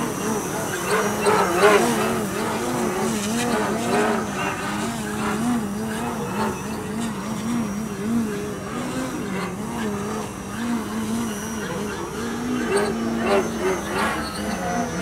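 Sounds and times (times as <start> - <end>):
model plane motor buzzing: 0.0 - 15.0.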